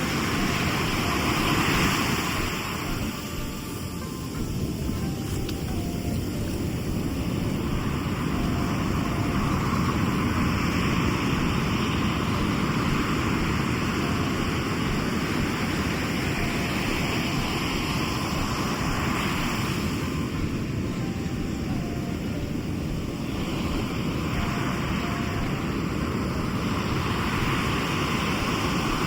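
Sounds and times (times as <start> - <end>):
sea waves washing ashore: 0.0 - 29.0
wind rumble on microphone: 0.0 - 29.0.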